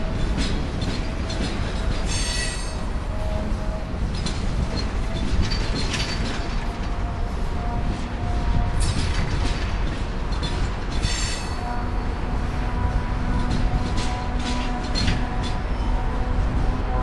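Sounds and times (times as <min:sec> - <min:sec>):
train wheels rumbling on rail: 0:00.0 - 0:17.0
wheels squealing: 0:00.1 - 0:07.0, 0:07.8 - 0:12.2, 0:13.3 - 0:16.7.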